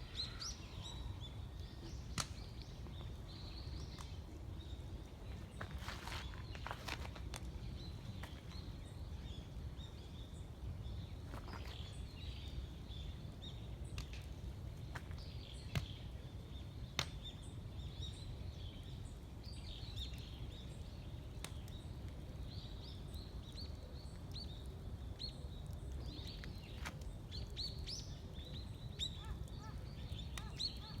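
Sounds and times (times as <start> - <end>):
small birds chirping: 0.0 - 31.0
wood fire crackling and popping: 1.3 - 31.0.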